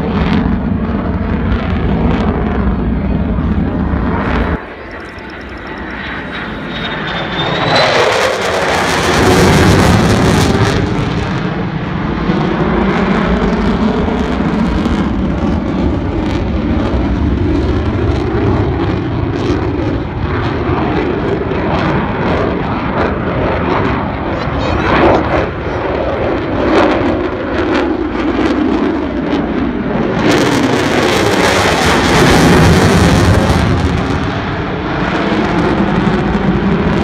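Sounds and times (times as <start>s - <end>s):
jet plane passing by: 0.0s - 37.0s.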